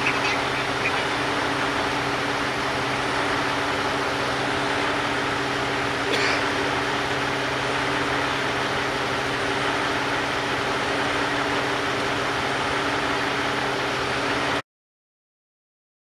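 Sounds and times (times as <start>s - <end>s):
vehicle engine idling: 0.0s - 14.6s.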